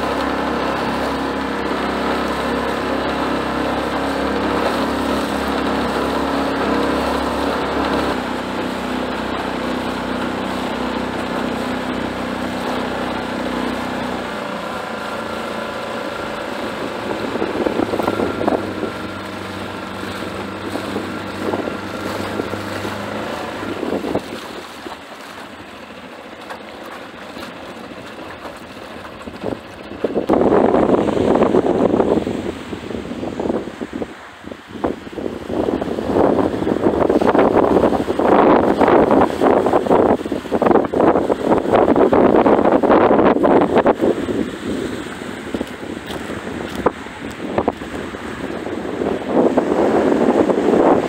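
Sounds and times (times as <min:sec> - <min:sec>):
wind on microphone: 0:00.0 - 0:25.7, 0:27.3 - 0:51.0
outboard motor running: 0:00.0 - 0:51.0
water splashing: 0:00.0 - 0:51.0.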